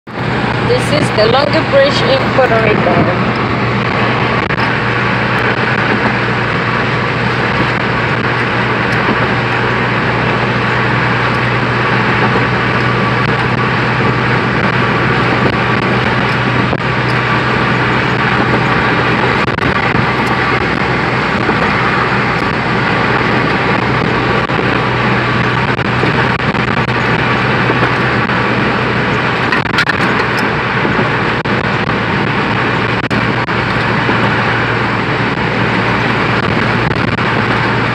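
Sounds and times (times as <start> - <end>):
car cabin road noise: 0.0 - 37.9
low hum: 0.1 - 37.9.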